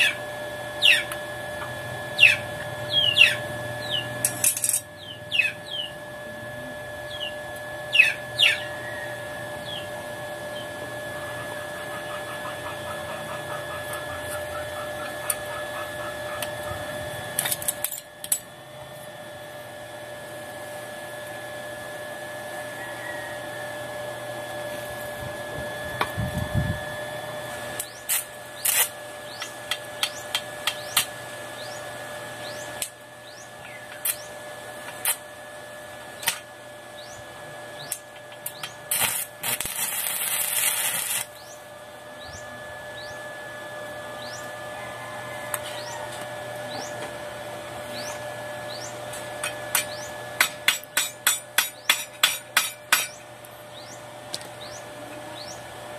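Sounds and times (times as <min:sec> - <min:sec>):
faint steady whine: 0:00.0 - 0:55.9.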